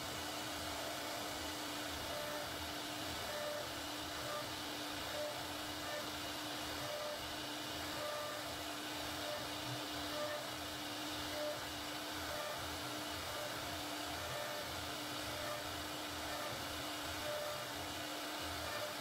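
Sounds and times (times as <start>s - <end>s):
cnc router spindle whine: 0.0s - 19.0s.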